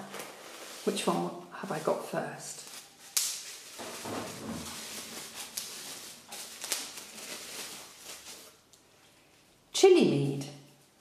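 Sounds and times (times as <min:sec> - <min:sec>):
bubble wrap crinkling: 0:00.0 - 0:09.0.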